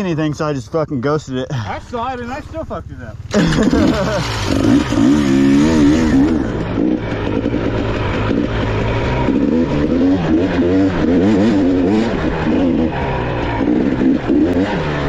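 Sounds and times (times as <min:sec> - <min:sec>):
dirt bike engine revving: 0:01.8 - 0:15.0.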